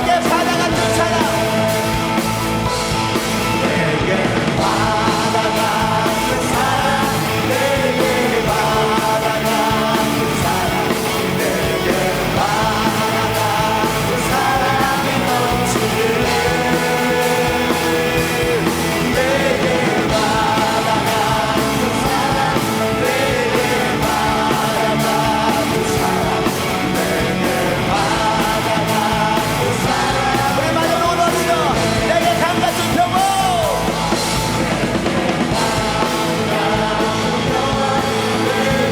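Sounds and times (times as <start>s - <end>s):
group of singers: 0.0s - 38.9s
rock band playing: 0.0s - 38.9s.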